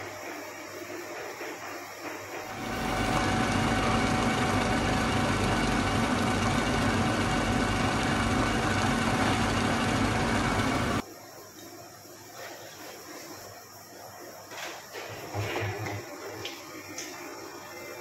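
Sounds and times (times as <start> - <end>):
induction hob hum and fan: 0.0 - 18.0.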